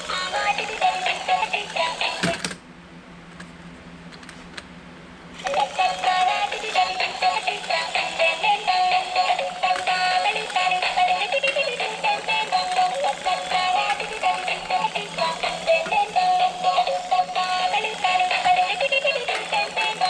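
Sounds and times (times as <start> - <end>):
electronic song from toy speaker: 0.0 - 2.6, 5.4 - 20.0
toy clicks: 0.2 - 2.6, 5.4 - 20.0.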